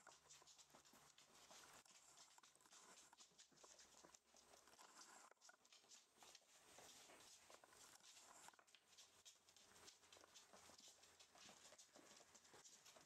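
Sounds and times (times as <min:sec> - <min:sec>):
puppy paws pattering on wood floor: 0:00.0 - 0:13.0.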